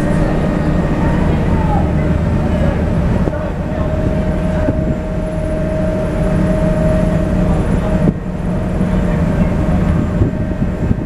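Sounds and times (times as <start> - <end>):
boat engine droning: 0.0 - 11.0
held whine: 0.0 - 11.0.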